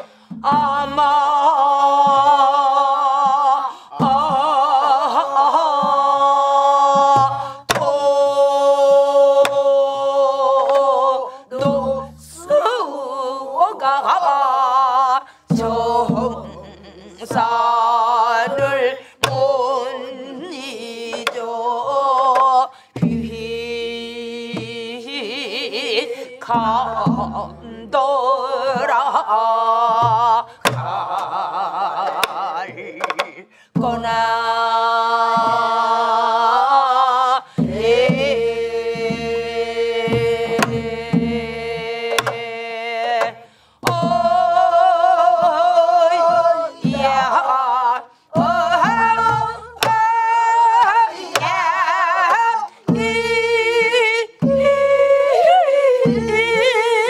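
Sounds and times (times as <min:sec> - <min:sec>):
group singing folk song: 0:00.0 - 0:57.0
woman singing with vibrato: 0:00.0 - 0:57.0.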